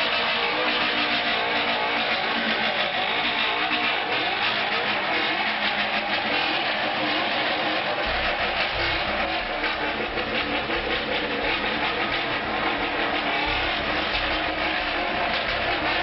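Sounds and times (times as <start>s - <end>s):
engines running and revving: 0.0s - 16.0s.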